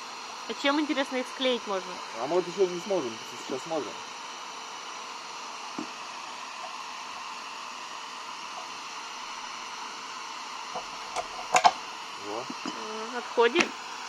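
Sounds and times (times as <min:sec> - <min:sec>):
heat gun blowing: 0:00.0 - 0:14.0.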